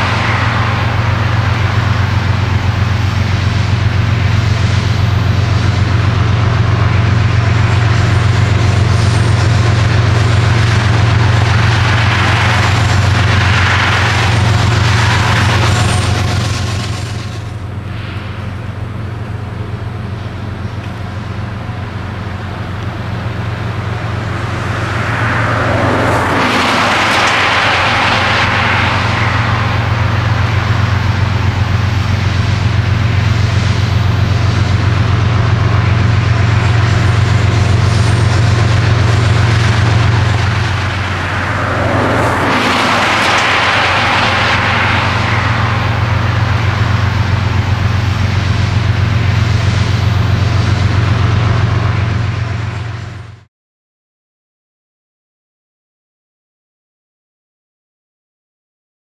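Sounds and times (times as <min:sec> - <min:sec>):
branches scraping along train: 0:00.0 - 0:53.4
locomotive engine drone: 0:00.0 - 0:53.5.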